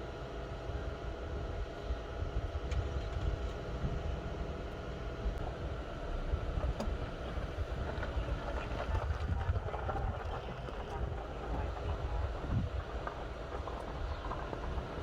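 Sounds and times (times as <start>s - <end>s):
vehicle engine idling: 0.7s - 15.0s
wind buffeting microphone: 1.4s - 15.0s.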